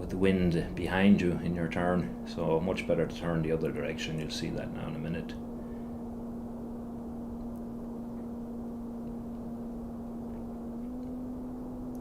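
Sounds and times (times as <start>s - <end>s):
electric motor and propeller humming: 0.0s - 12.0s.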